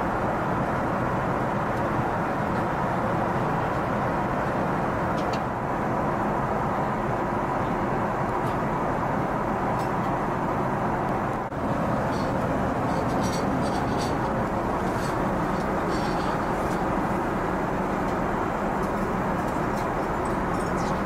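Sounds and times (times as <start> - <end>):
airliner cabin noise: 0.0 - 21.0.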